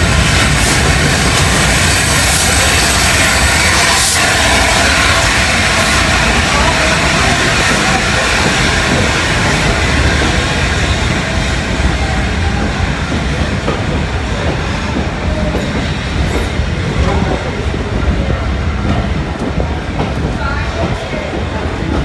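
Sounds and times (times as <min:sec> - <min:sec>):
steam hissing: 0:00.0 - 0:22.0
train rumbling: 0:00.0 - 0:22.0.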